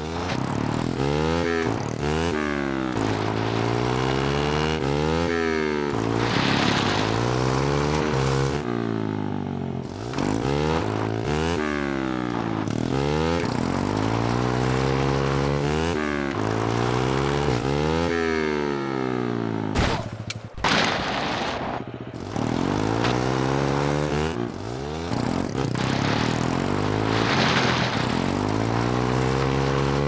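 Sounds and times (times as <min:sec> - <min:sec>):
mini bike engine revving: 0:00.0 - 0:19.8, 0:20.7 - 0:30.0.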